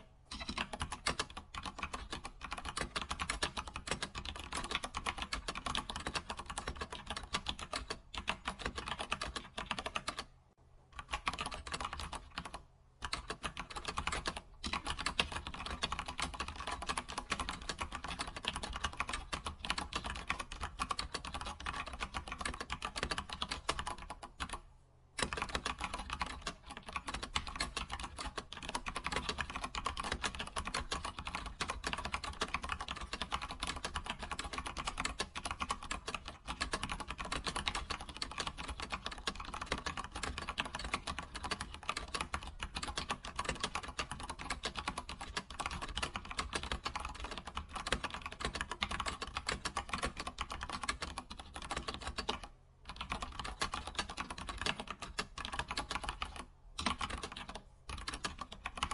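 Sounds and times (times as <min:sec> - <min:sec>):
keyboard typing: 0:00.0 - 0:10.3, 0:11.0 - 0:24.6, 0:25.2 - 0:58.9.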